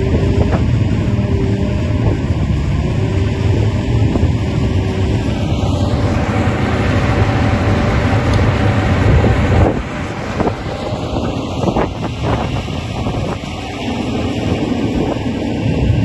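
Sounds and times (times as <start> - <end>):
diesel engine running: 0.0 - 16.0
wind buffeting microphone: 0.0 - 16.0.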